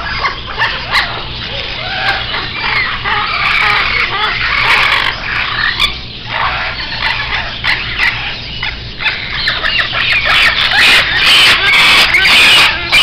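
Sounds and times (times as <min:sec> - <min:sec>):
faint low hum: 0:00.0 - 0:13.0
parrots squawking and screeching: 0:00.0 - 0:13.0.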